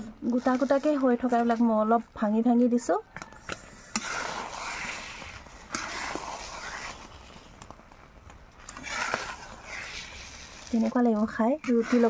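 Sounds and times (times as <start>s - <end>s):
spatula scraping metal wok: 0.0s - 2.4s, 3.4s - 7.7s, 8.6s - 12.0s.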